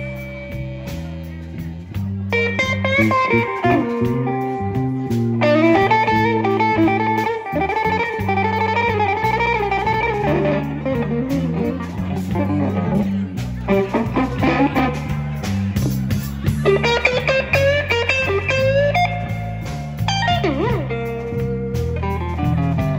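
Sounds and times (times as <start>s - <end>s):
bass guitar: 0.0s - 22.9s
drums: 0.0s - 22.9s
electric guitar lead: 0.0s - 22.9s.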